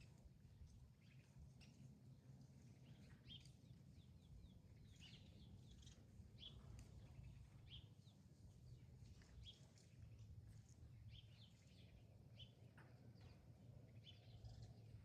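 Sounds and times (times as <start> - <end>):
faint birds chirping: 0.0 - 15.0
low steady rumble: 0.0 - 15.0.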